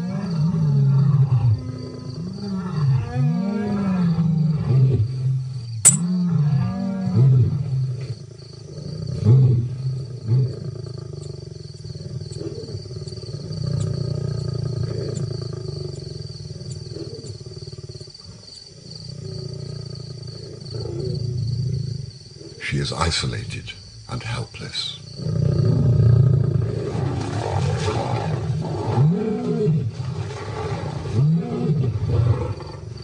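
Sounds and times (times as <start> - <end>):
lions snarling and growling: 0.0 - 23.0, 24.8 - 33.0.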